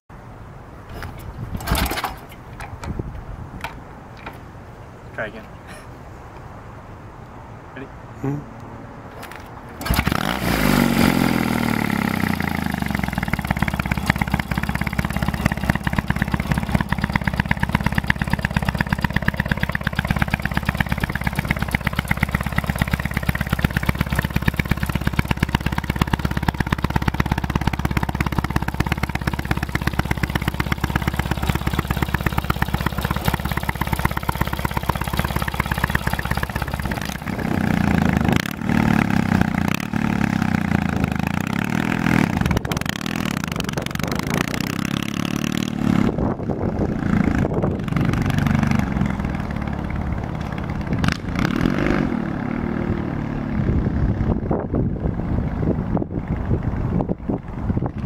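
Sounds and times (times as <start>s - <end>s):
motorcycle engine idling and revving: 0.8s - 4.4s, 8.2s - 58.0s.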